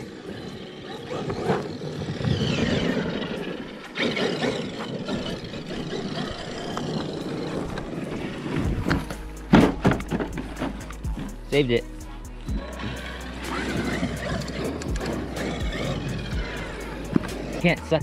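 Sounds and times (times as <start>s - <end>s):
electric motor whining: 0.0s - 11.4s, 12.5s - 18.0s
tires churning loose dirt: 0.0s - 18.0s.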